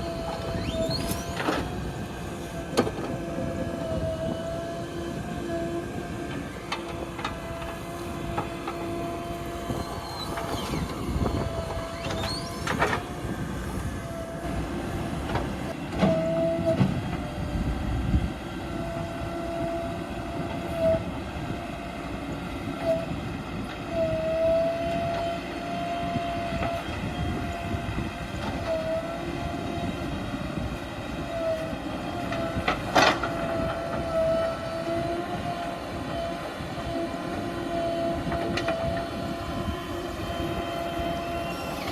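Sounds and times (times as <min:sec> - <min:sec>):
diesel engine whining under load: 0:00.0 - 0:41.9.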